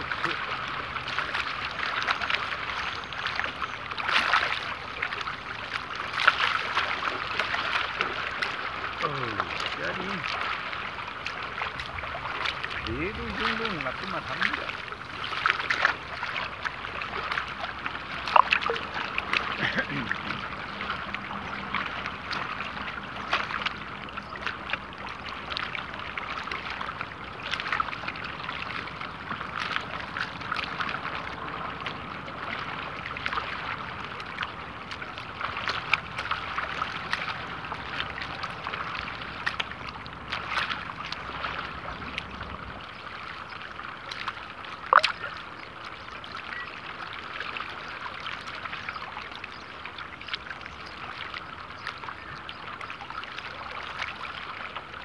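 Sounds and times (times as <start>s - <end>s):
small waves lapping: 0.0s - 55.0s.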